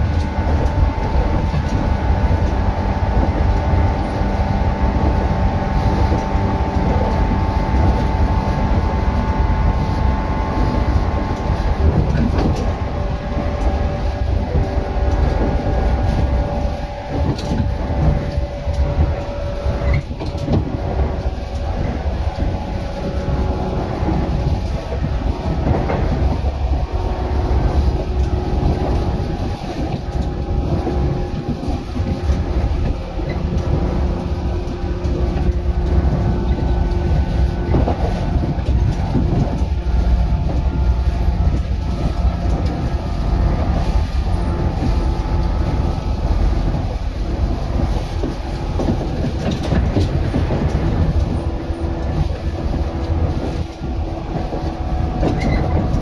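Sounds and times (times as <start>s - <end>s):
electric train running: 0.0s - 56.0s.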